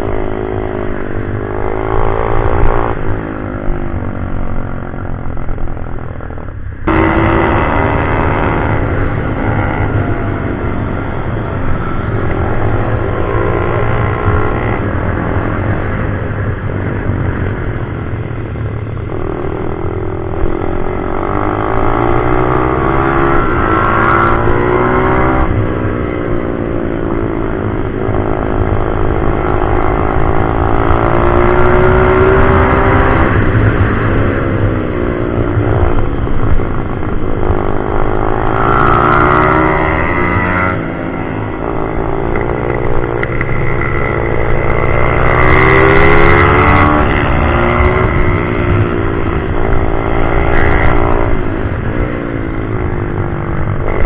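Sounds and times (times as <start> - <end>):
pit bike engine revving: 6.8 - 16.4, 19.0 - 54.0.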